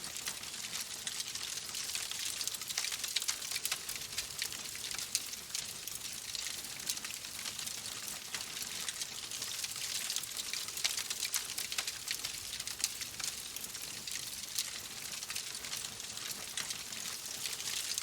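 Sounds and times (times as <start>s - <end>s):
wood fire crackling: 0.1s - 18.0s.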